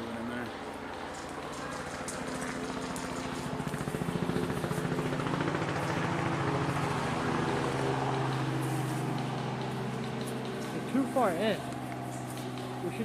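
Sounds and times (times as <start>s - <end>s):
engine running with pulsing beat: 0.0s - 13.0s.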